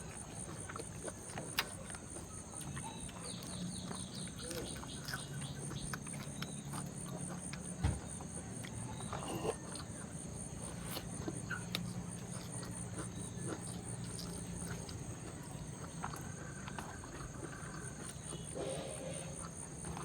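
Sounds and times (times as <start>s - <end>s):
chewing with wet mouth clicks: 0.0s - 20.0s
crickets chirring: 0.0s - 20.0s.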